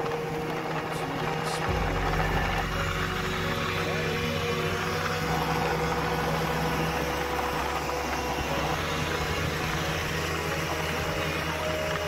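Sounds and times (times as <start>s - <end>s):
road noise: 0.0s - 12.0s
scooter engine running: 0.0s - 12.0s.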